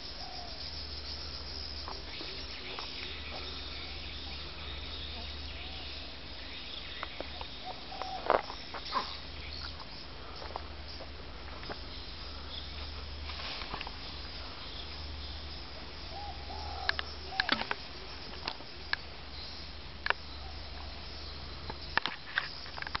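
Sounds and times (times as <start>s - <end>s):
low bird calls: 0.0s - 23.0s
steady low hum: 0.0s - 23.0s.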